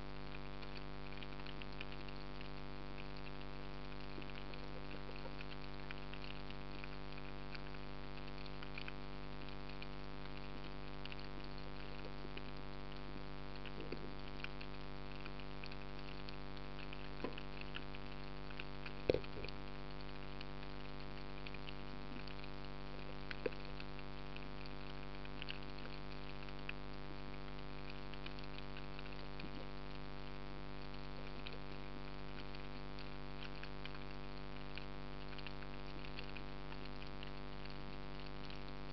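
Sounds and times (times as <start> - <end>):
faint clicks and crackles: 0.0 - 38.9
underwater hum: 0.0 - 38.9.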